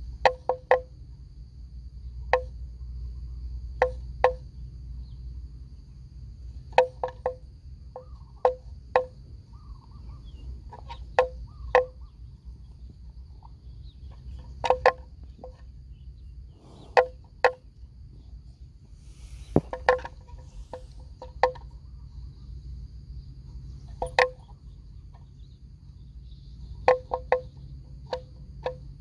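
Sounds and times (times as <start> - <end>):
high insect drone: 0.0 - 29.0
faint bird chirps: 2.0 - 6.0, 6.8 - 29.0.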